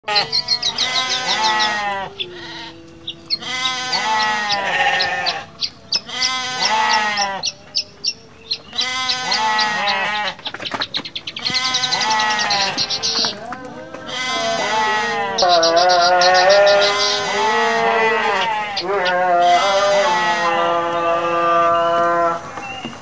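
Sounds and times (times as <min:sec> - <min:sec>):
sheep bleating: 0:00.0 - 0:10.4, 0:11.4 - 0:22.8.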